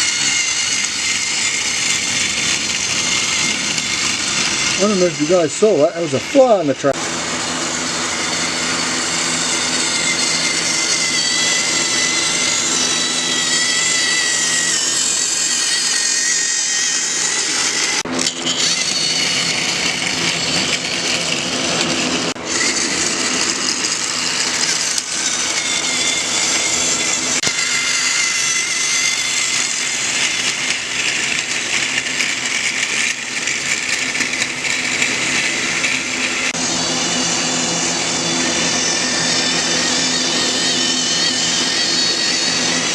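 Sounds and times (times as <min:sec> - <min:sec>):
toy train motor whining: 0:00.0 - 0:42.9.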